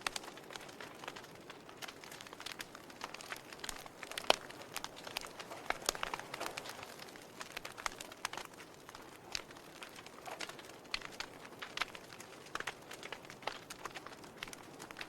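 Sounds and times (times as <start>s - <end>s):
sharp pops of fire: 0.0s - 15.0s
wood fire crackling: 0.0s - 15.0s.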